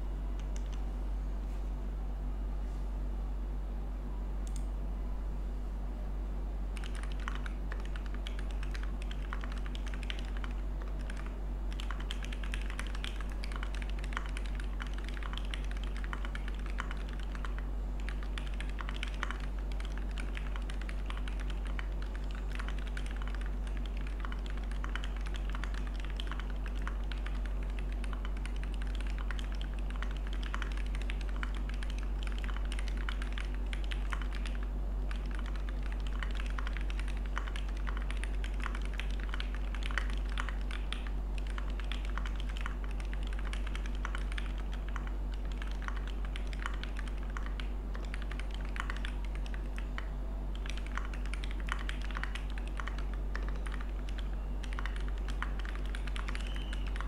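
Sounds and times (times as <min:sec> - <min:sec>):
mechanical keyboard typing: 0:00.4 - 0:00.8, 0:06.8 - 0:57.0.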